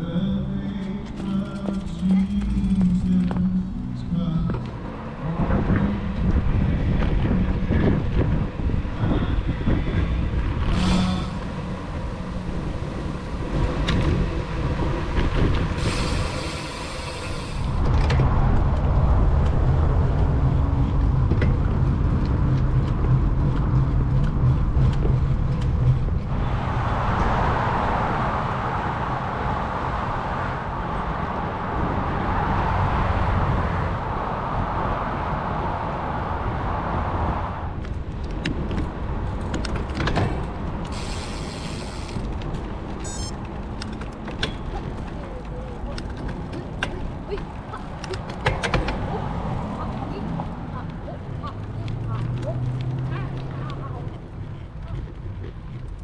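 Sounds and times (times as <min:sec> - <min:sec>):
low hum: 0:00.0 - 0:56.0
road traffic rumbling: 0:00.0 - 0:56.0.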